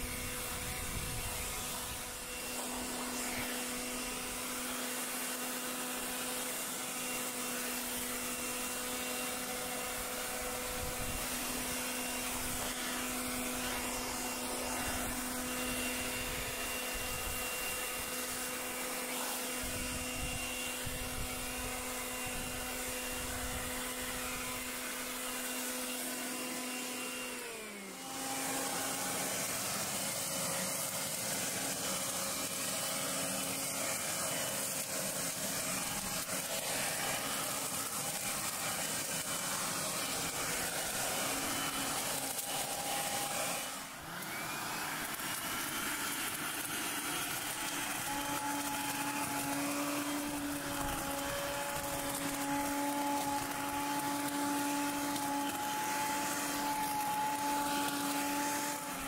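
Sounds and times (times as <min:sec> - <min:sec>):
blower motor whine: 0:00.0 - 0:59.0.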